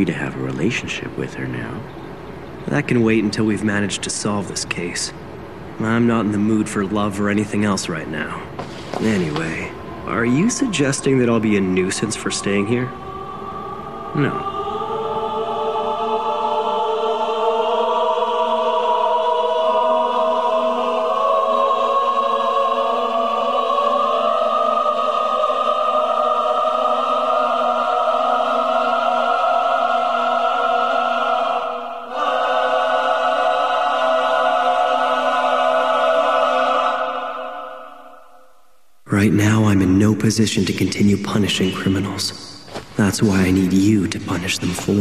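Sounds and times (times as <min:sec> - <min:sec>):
choir singing sustained chords: 0:00.0 - 0:45.0.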